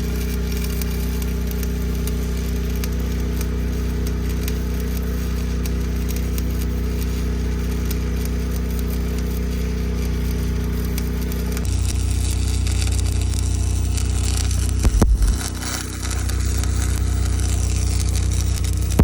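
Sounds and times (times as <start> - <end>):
welder engine droning: 0.0 - 19.0
welding arc crackling: 0.0 - 19.0.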